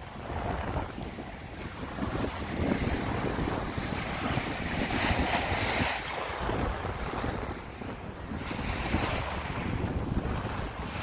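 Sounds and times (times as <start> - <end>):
waves washing onto pebbles: 0.0 - 11.0
wind buffeting microphone: 0.0 - 11.0.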